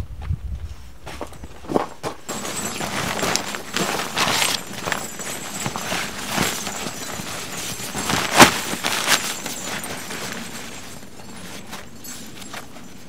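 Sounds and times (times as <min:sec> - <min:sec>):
tent fabric rustling: 0:01.1 - 0:13.0.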